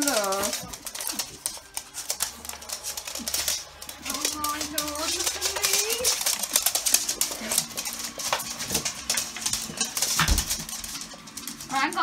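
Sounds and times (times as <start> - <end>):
dog claws skittering on floor: 0.0 - 12.0.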